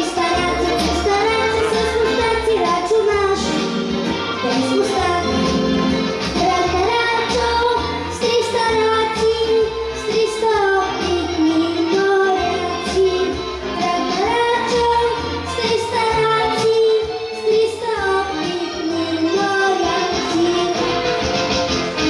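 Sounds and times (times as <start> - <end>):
child singing: 0.0 - 21.1
instrumental backing with beat: 0.0 - 22.0.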